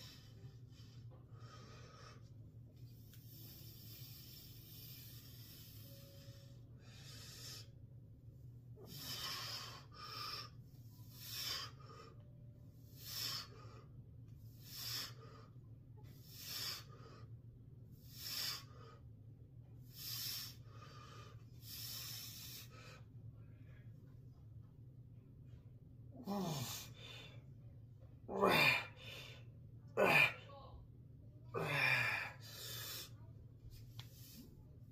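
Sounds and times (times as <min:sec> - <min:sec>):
man breathing heavily: 0:00.0 - 0:24.2, 0:25.4 - 0:30.4, 0:31.5 - 0:34.9
steady low hum: 0:00.0 - 0:34.9.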